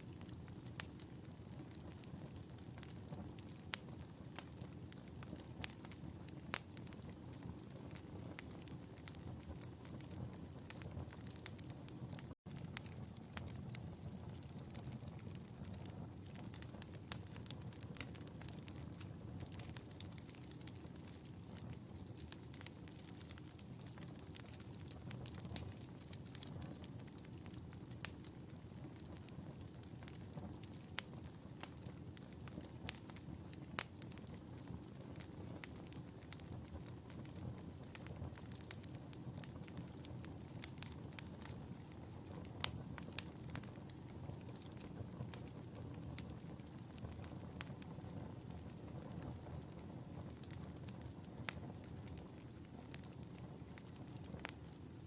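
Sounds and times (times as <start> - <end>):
flame rumbling: 0.0 - 55.0
wood fire crackling: 0.0 - 55.0.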